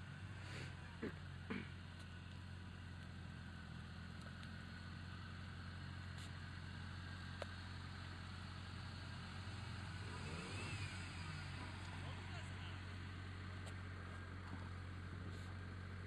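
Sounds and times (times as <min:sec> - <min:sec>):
vehicle engine running at low revs: 0:00.0 - 0:16.0.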